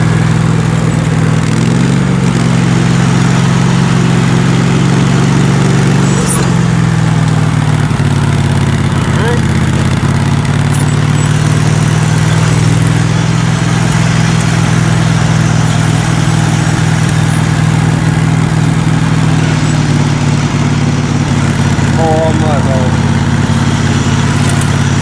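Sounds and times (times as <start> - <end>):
riding lawn mower engine running: 0.0 - 25.0.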